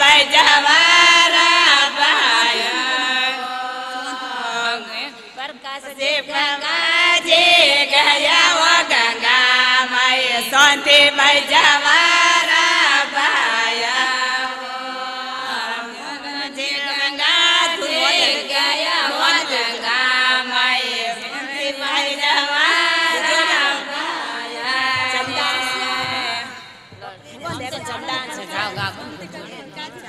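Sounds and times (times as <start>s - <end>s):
group of women singing: 0.0s - 30.0s.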